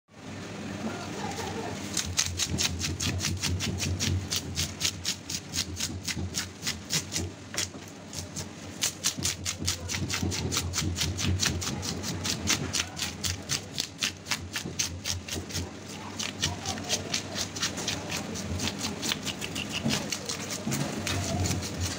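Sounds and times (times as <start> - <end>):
scraping tool rasping fish scales: 1.2 - 21.9.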